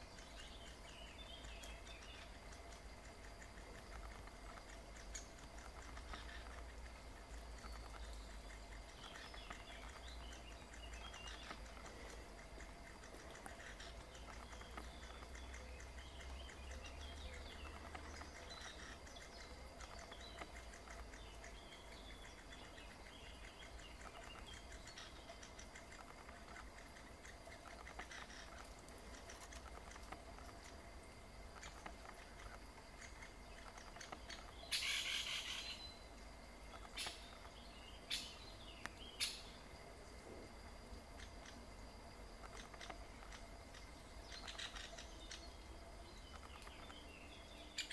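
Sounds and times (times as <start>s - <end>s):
woodpecker nestlings chirping: 0.0s - 39.7s, 41.2s - 47.9s.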